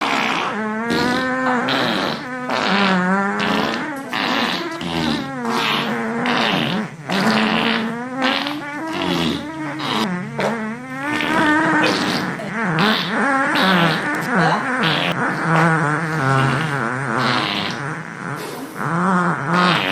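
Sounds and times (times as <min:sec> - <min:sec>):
farts with wobbling pitch: 0:00.0 - 0:19.9.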